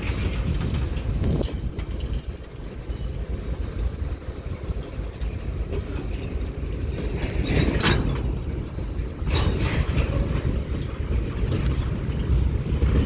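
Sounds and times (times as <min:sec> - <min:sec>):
railroad cars rumbling: 0:00.0 - 0:13.0
sharp harsh railcar noise: 0:00.0 - 0:13.0.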